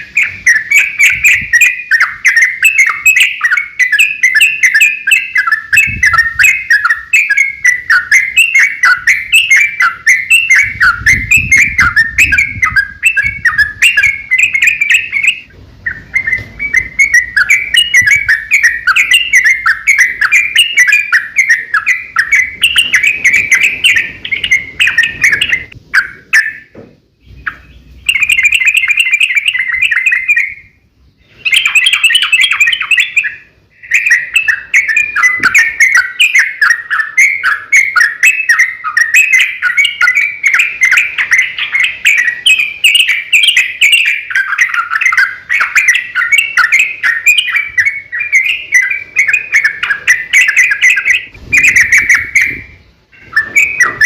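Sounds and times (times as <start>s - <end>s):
bulbul chattering song: 0.0s - 54.0s.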